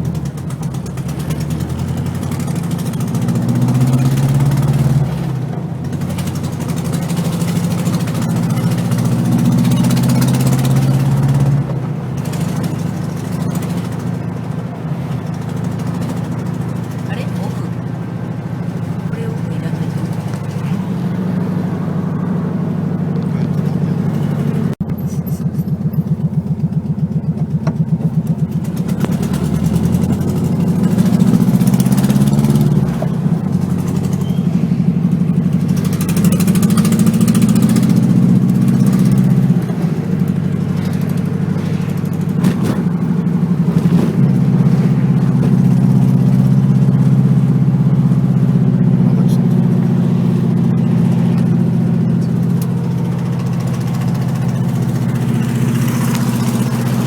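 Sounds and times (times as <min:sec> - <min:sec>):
loud car engine revving: 0:00.0 - 0:57.0.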